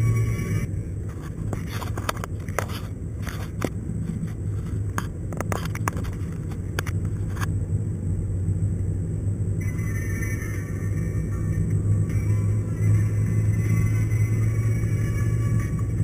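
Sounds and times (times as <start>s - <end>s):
engine and tyre drone: 0.0s - 16.0s.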